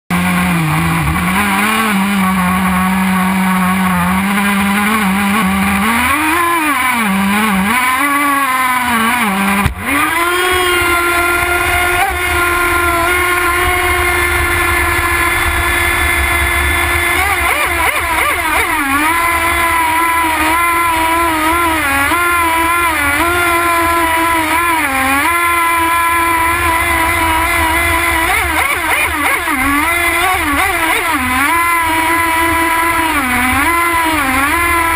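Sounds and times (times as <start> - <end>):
model boat engine running: 0.1 - 34.9.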